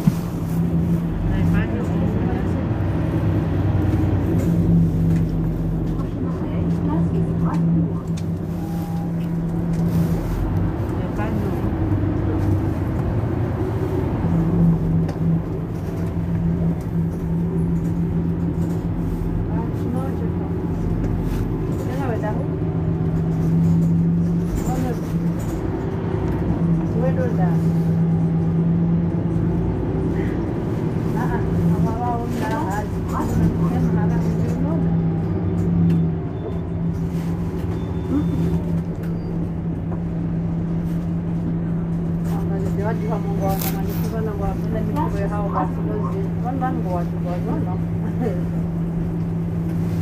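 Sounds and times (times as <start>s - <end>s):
bus idling rumble: 0.0s - 50.0s.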